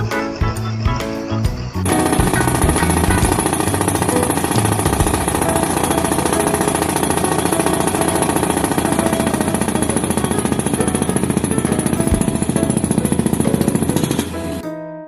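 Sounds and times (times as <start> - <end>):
pile driver rattling impacts: 1.9 - 14.4.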